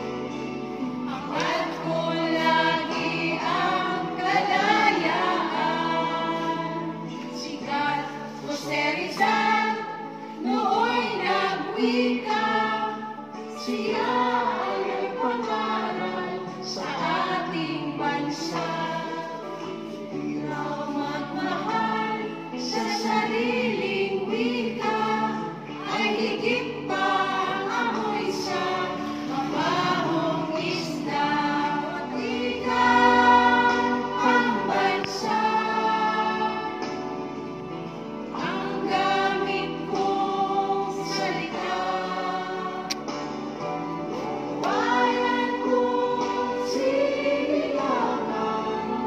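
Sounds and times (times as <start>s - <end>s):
group singing with music: 0.0s - 49.0s.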